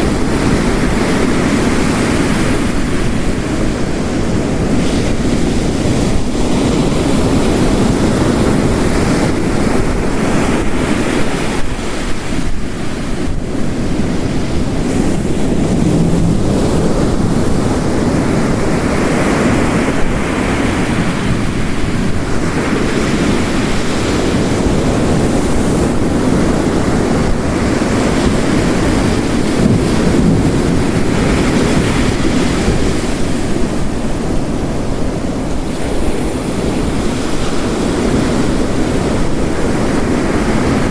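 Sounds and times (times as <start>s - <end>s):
heavy rain: 0.0s - 40.9s
ocean waves crashing: 0.0s - 40.9s.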